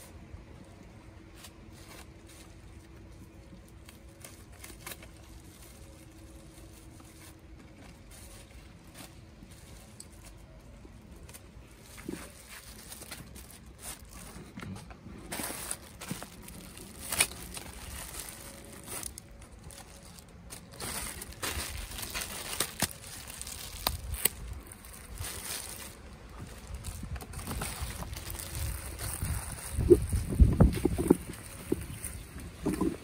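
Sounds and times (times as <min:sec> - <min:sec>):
plastic bags crinkling and rustling: 0:00.0 - 0:33.0.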